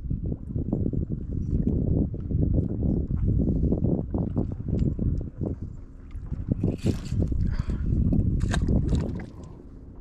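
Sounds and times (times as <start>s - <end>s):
wind rumbling on microphone: 0.0s - 10.0s
water lapping: 1.1s - 10.0s.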